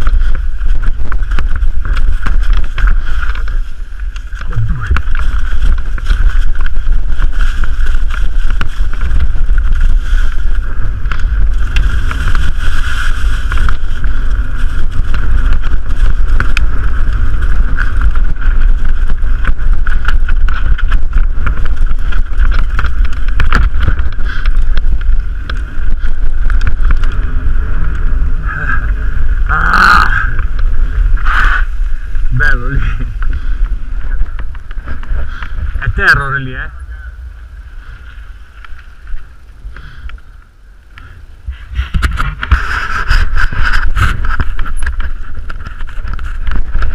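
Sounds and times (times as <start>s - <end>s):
bike rattling: 0.0s - 46.9s
wind rumble on microphone: 0.0s - 46.9s.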